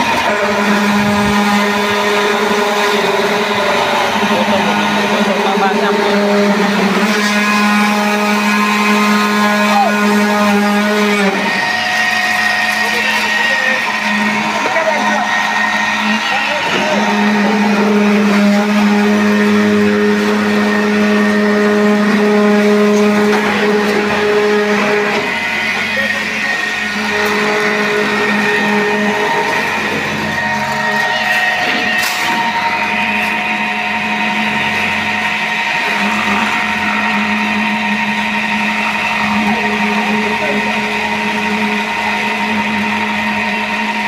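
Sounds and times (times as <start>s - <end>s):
concrete pump running: 0.0s - 44.0s
concrete vibrator motor: 0.0s - 44.0s
machinery humming: 0.0s - 44.0s.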